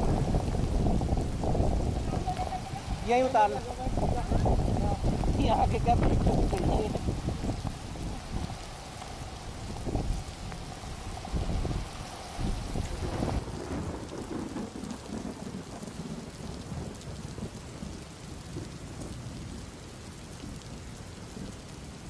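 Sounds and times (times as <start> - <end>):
low thunder rumble: 0.0 - 19.6
heavy rain falling: 0.0 - 22.0.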